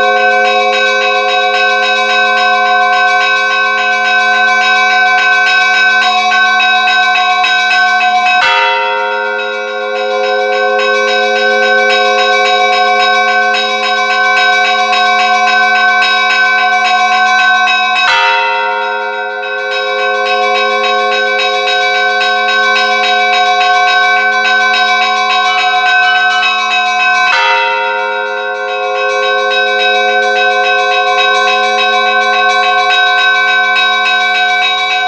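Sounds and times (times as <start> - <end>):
church bells pealing: 0.0 - 35.0.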